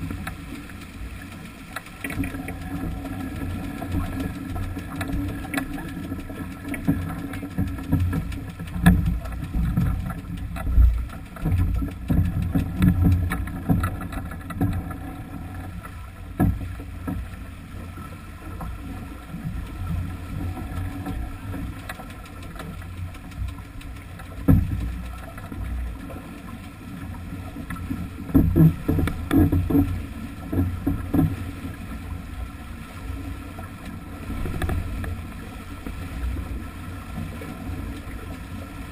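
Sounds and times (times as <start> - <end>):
water rushing along hull: 0.0 - 38.9.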